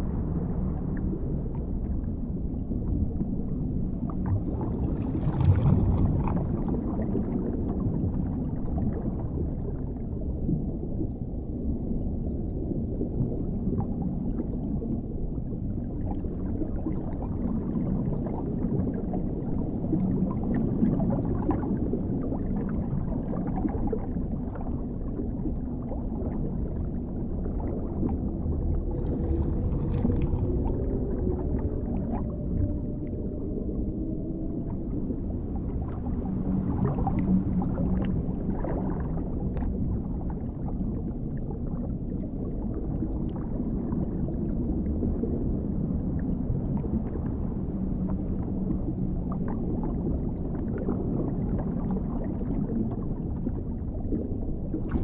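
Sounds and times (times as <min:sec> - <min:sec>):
muffled underwater rumble: 0:00.0 - 0:55.0.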